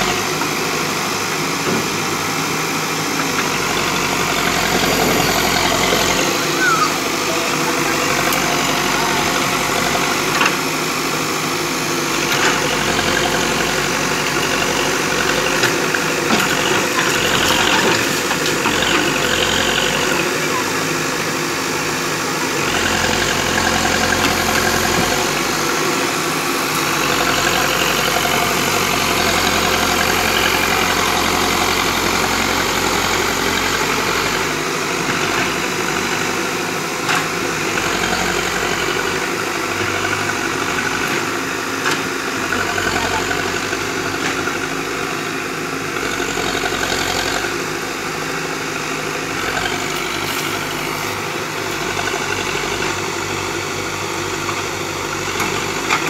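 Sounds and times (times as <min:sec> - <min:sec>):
backhoe diesel engine running: 0:00.0 - 0:56.0.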